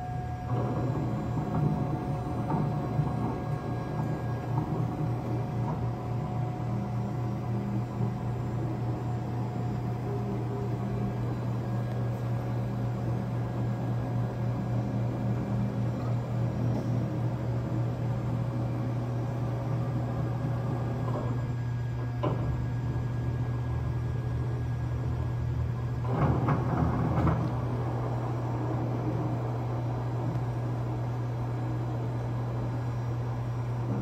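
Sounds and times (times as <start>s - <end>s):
low machinery hum: 0.0s - 34.0s.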